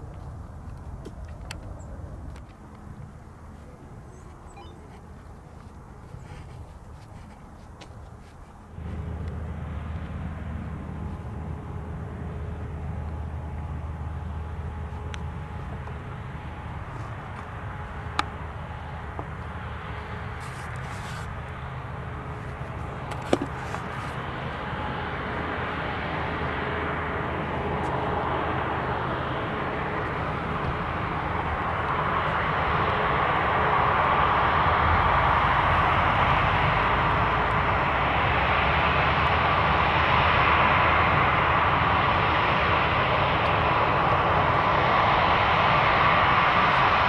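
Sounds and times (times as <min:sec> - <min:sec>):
jet engines running: 0:00.0 - 0:47.0.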